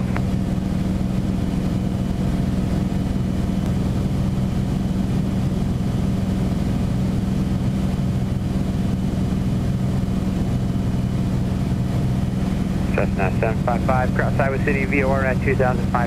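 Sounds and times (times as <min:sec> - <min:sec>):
piston engine and propeller droning: 0:00.0 - 0:16.0.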